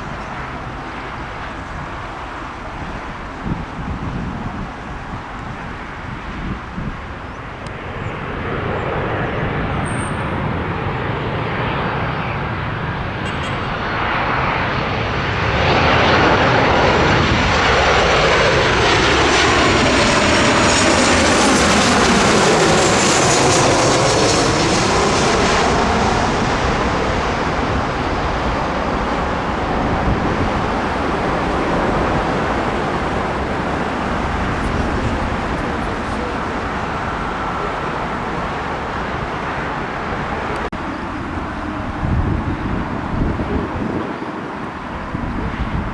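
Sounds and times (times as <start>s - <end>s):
airliner passing overhead: 0.0s - 45.9s.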